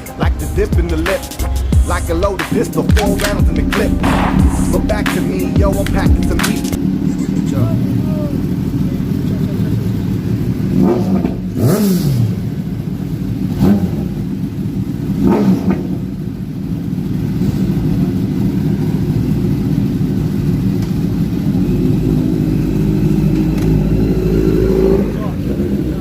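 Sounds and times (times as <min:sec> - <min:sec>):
highway traffic drone: 0:00.0 - 0:26.0.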